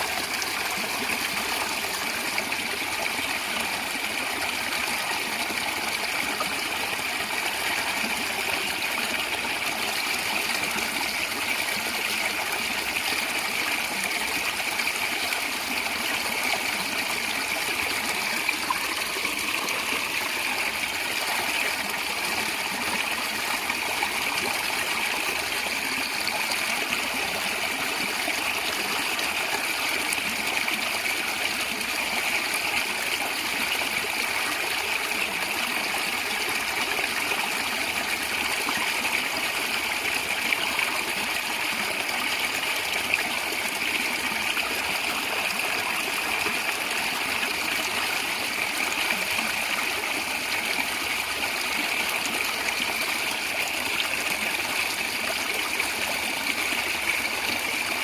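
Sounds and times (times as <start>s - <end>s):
stream gurgling over rocks: 0.0s - 58.0s.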